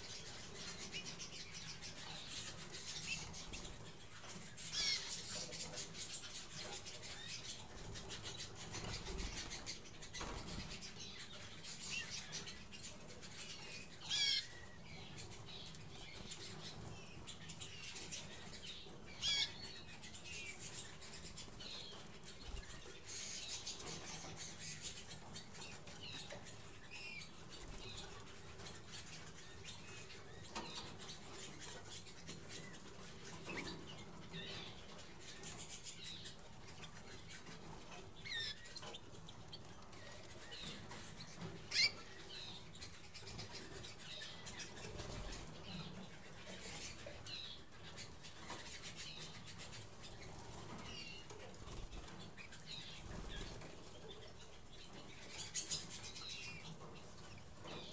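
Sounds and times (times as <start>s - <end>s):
bird chirps: 0.0s - 57.9s
birds fluttering in a cage: 0.0s - 57.9s.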